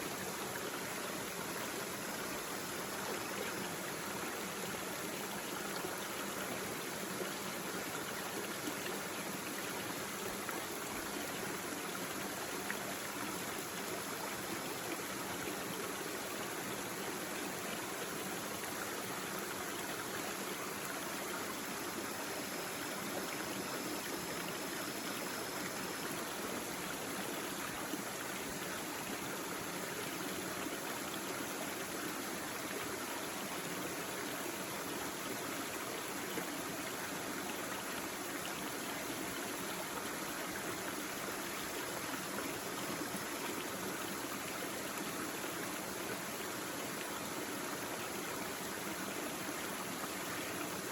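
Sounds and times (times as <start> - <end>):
brook babbling: 0.0 - 50.9.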